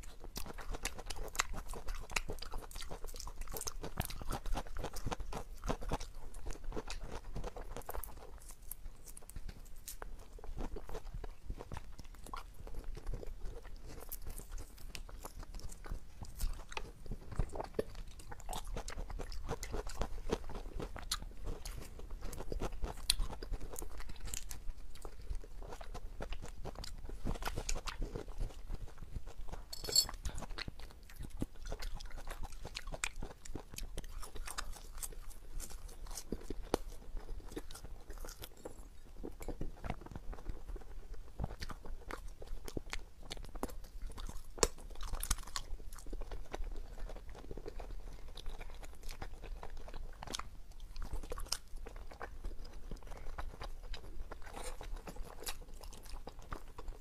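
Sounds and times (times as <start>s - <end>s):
chewing and biting: 0.0s - 57.0s.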